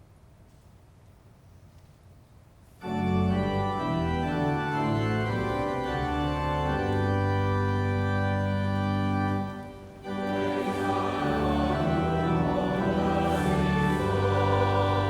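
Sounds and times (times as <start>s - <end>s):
church organ chords: 2.8s - 15.0s.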